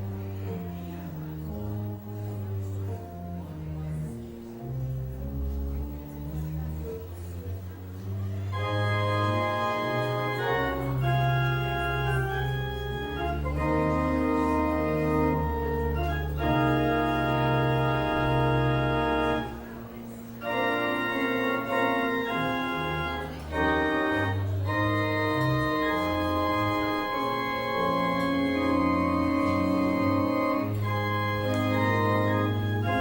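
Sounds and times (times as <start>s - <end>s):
organ playing slow chords: 0.0s - 33.0s.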